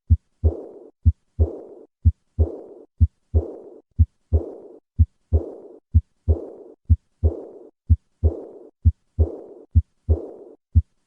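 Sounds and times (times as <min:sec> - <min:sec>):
heartbeat with murmur: 0:00.0 - 0:11.0.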